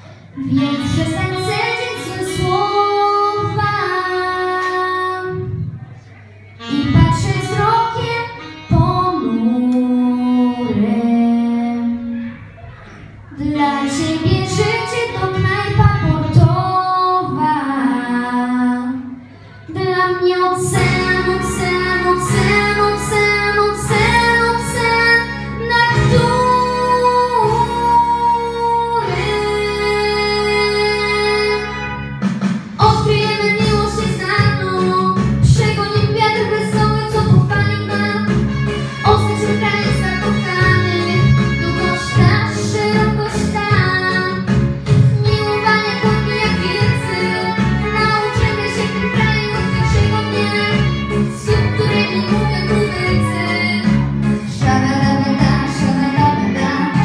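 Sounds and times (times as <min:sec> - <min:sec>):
girl singing pop song: 0:00.0 - 0:05.7, 0:06.6 - 0:12.3, 0:13.3 - 0:32.1, 0:32.8 - 0:57.0
instrumental accompaniment: 0:00.4 - 0:16.9, 0:19.3 - 0:57.0.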